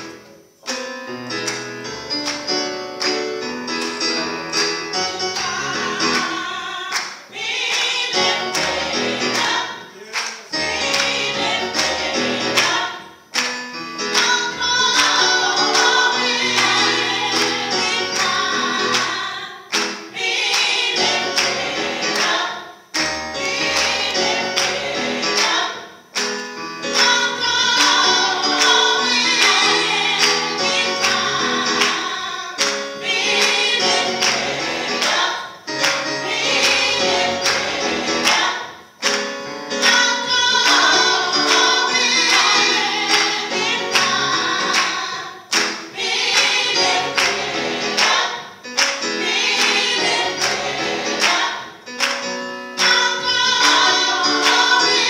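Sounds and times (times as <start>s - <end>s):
keyboard accompaniment: 0.0s - 55.0s
hands clapping on the beat: 1.4s - 4.0s, 6.9s - 32.0s, 32.6s - 54.8s
women's gospel choir singing: 1.6s - 55.0s.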